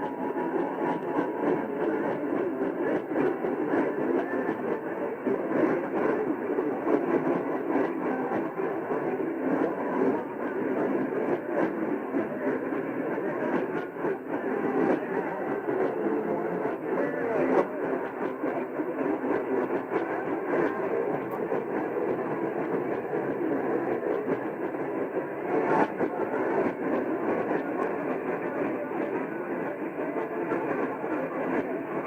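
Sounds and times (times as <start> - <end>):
muffled radio programme audio: 0.0 - 32.0
radio static and crackle: 0.0 - 32.0.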